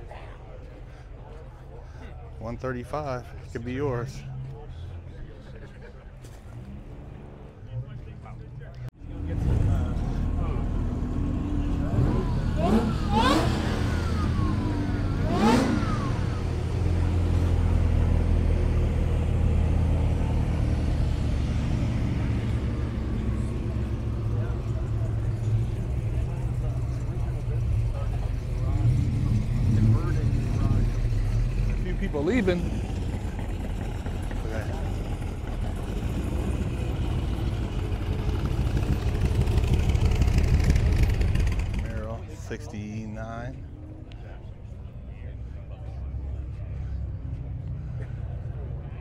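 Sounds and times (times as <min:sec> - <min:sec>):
car engine revving and idling: 0:02.3 - 0:49.0.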